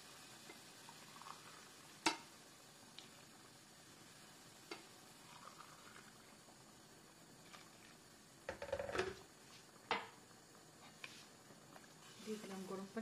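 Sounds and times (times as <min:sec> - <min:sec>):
rice simmering faintly: 0:00.0 - 0:13.0.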